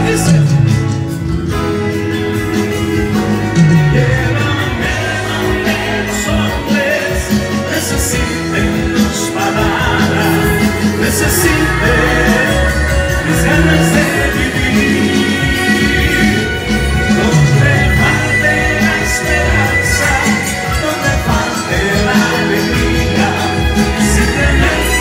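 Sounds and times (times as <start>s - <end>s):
live band playing pop-rock: 0.0s - 25.0s
person singing: 2.6s - 25.0s.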